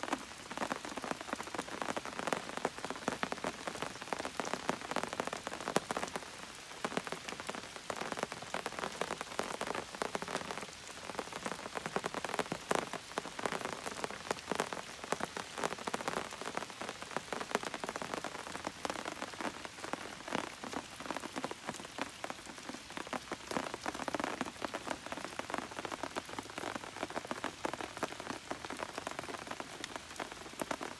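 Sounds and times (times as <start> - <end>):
rain falling: 0.0 - 30.9
raindrops tapping on a surface: 0.0 - 30.9.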